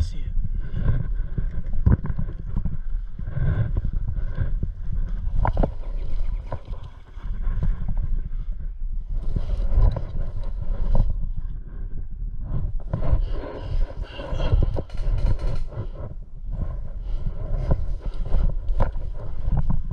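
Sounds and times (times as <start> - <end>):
wind rumbling on microphone: 0.0 - 19.9
knocks and rustles of movement: 0.6 - 11.8, 12.4 - 19.9.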